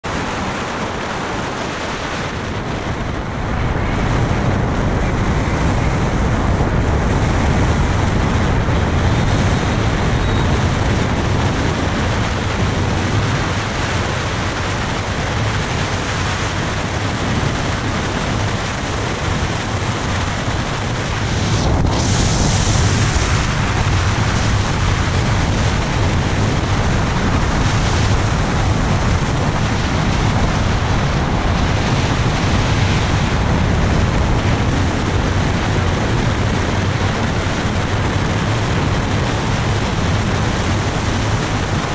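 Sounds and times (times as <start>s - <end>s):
scooter and road rumble: 0.0s - 41.9s
wind rushing over microphone: 0.0s - 41.9s.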